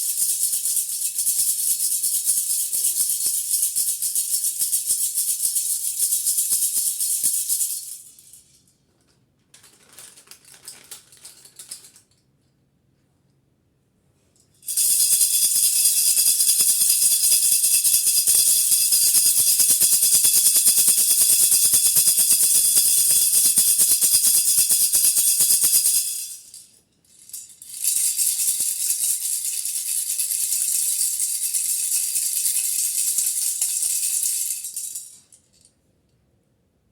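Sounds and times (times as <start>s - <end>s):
hand rattle shaken rapidly: 0.0s - 8.7s, 9.6s - 12.1s, 14.6s - 35.7s.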